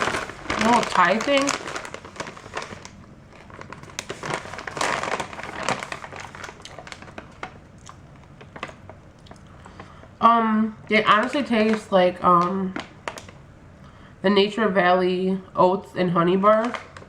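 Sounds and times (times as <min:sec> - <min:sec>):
plastic snack bag crinkling: 0:00.0 - 0:13.4, 0:16.3 - 0:17.0.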